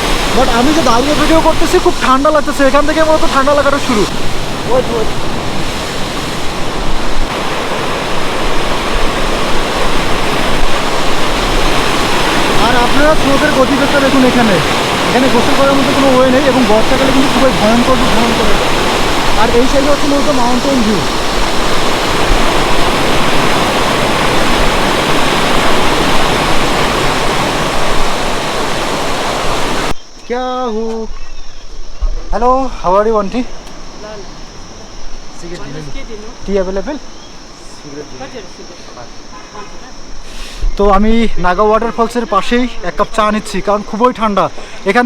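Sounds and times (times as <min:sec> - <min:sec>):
waterfall rushing: 0:00.0 - 0:29.9, 0:32.8 - 0:45.0.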